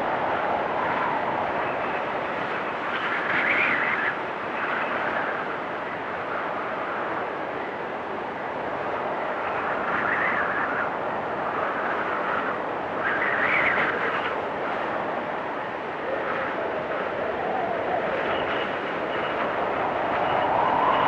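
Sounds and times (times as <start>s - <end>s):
strong wind gusting: 0.0s - 21.0s.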